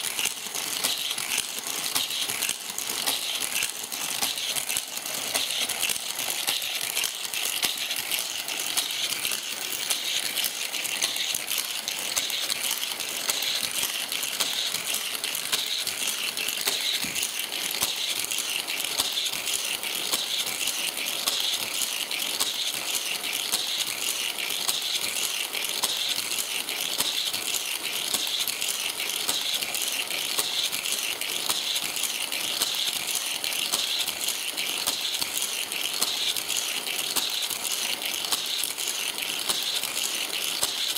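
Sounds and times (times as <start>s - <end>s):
toy cars rattling on plastic track: 0.0s - 40.9s.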